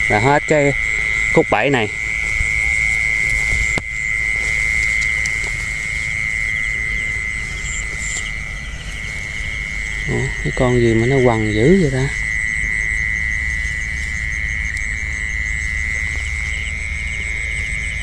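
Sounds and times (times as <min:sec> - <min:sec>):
frogs and insects trilling: 0:00.0 - 0:18.0
low rumble: 0:00.8 - 0:18.0.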